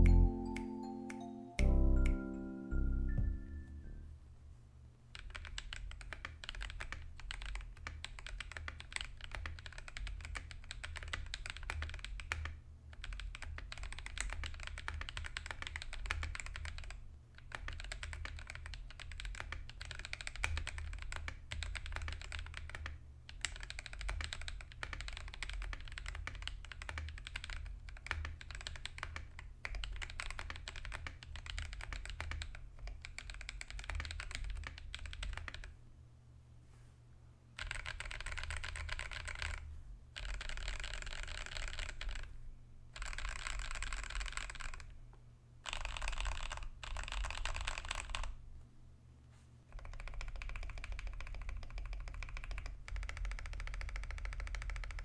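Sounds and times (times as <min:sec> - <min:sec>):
mechanical keyboard typing: 0:05.2 - 0:35.7, 0:37.6 - 0:39.6, 0:40.2 - 0:42.3, 0:43.0 - 0:44.9, 0:45.6 - 0:48.3, 0:49.7 - 0:55.0.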